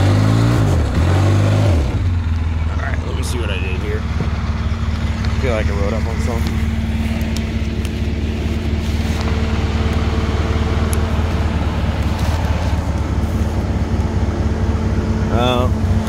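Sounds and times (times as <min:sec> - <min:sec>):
atv engine idling: 0:02.0 - 0:16.0.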